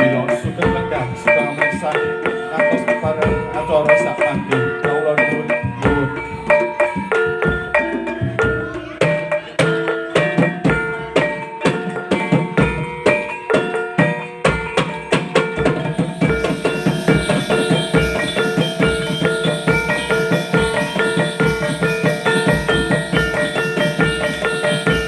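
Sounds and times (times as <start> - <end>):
drums beating a rhythm: 0.0 - 25.0
struck pitched metallic tones: 0.0 - 25.0.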